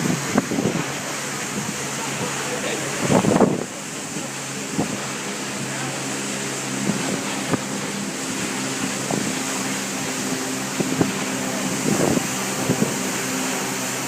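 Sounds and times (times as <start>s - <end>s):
boat engine humming: 0.0s - 14.0s
wind and water rushing: 0.0s - 14.0s.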